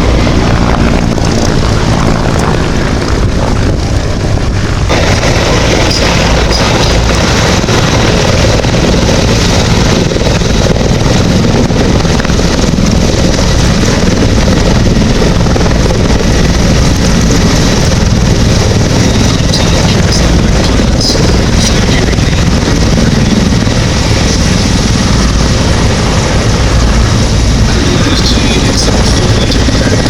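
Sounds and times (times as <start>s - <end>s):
helicopter rotor and engines thrumming: 0.0s - 30.0s.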